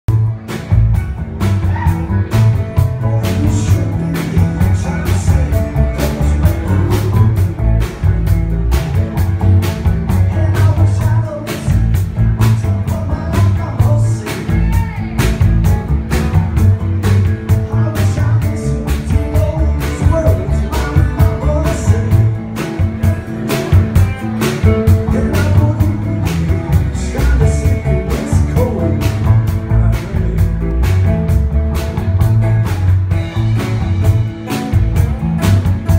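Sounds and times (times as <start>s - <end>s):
strong bass line: 0.0s - 35.9s
drums steady beat: 0.1s - 35.9s
live blues-rock band playing: 0.1s - 35.9s.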